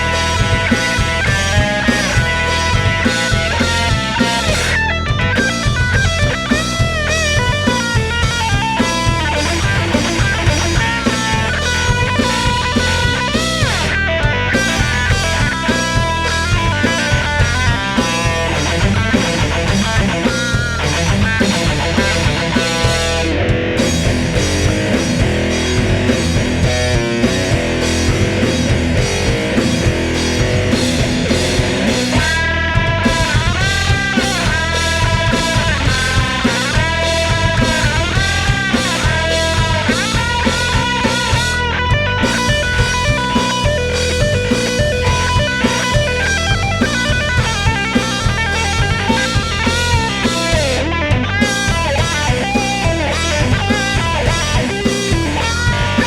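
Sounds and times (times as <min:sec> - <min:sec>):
bending lead guitar line: 0:00.0 - 0:56.0
doom metal band playing: 0:00.0 - 0:56.0.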